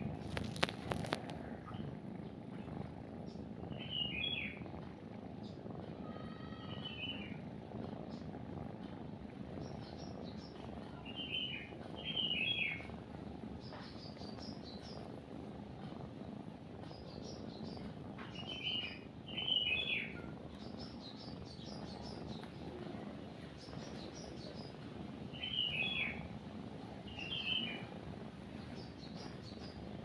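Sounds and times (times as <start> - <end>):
cat purring: 0.0 - 30.0
small birds chirping: 0.0 - 30.0.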